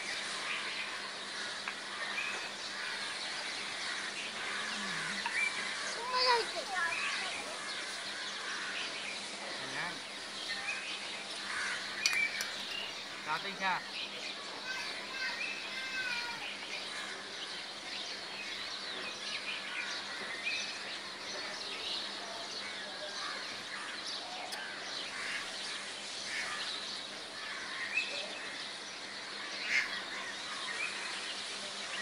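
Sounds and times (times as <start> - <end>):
birds chirping: 0.0 - 32.0
steady background hiss: 0.0 - 32.0.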